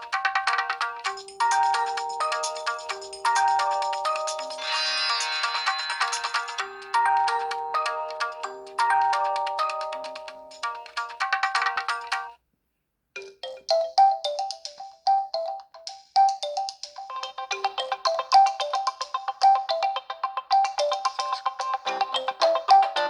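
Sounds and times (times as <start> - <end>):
phone ringtone melody: 1.0 - 12.3, 13.2 - 23.0.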